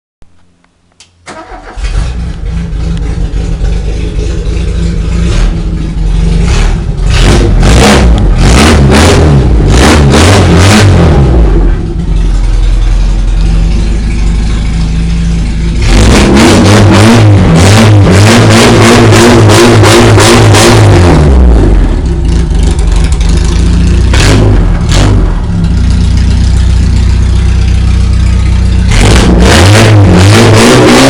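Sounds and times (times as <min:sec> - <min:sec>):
car engine starting and revving: 0:01.2 - 0:31.0.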